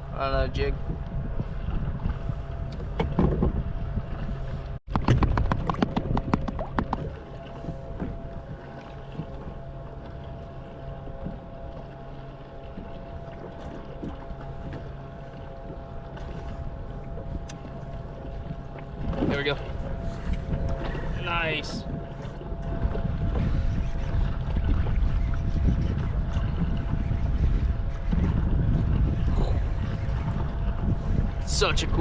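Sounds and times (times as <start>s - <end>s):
water around a kayak: 0.0s - 32.0s
wind on microphone: 0.0s - 32.0s.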